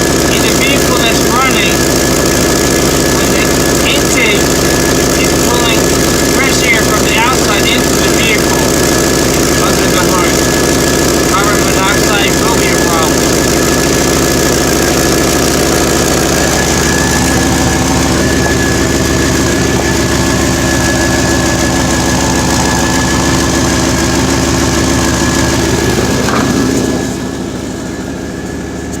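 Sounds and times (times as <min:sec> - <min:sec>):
engine idling with exhaust leak: 0:00.0 - 0:29.0.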